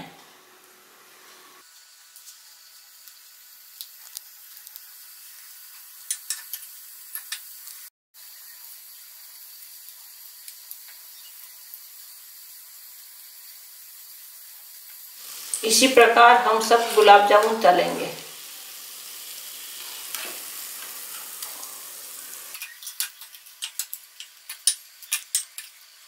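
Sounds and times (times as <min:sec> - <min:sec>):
deep-frying sizzle with pops: 0:00.6 - 0:26.0.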